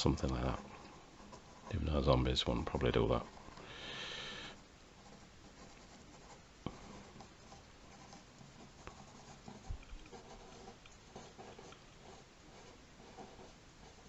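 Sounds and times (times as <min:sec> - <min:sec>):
pencil scratching on paper: 0:00.0 - 0:03.6, 0:05.0 - 0:14.0.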